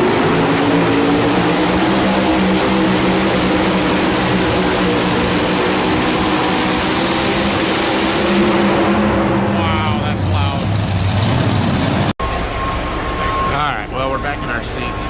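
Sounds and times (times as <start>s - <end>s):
truck engine howling under load: 0.0s - 15.0s.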